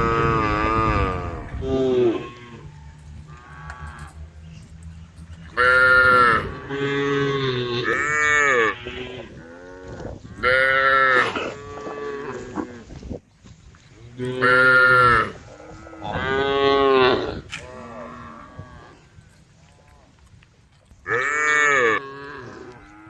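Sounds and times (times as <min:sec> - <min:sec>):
cows mooing: 0:00.0 - 0:04.7, 0:05.4 - 0:12.9, 0:14.0 - 0:20.1, 0:21.1 - 0:23.0.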